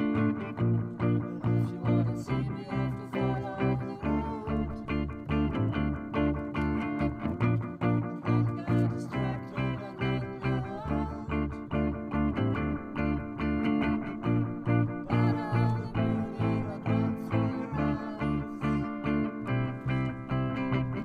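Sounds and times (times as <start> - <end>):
strummed electric guitars: 0.0 - 21.0.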